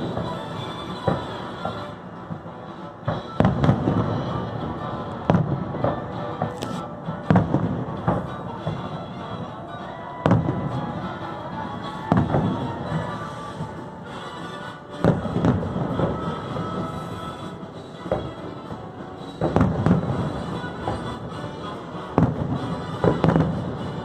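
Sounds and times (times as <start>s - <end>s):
fireworks bursting in booms: 0.0s - 24.0s
show music: 0.0s - 24.0s.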